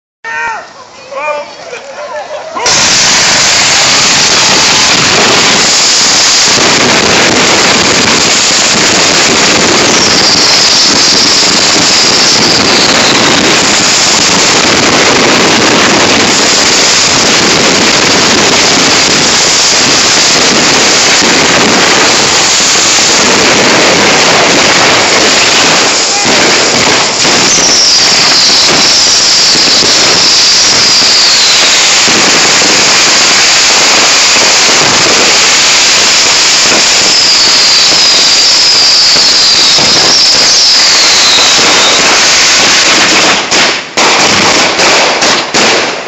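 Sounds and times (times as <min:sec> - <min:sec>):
fireworks crackling hiss: 0:02.5 - 0:46.0.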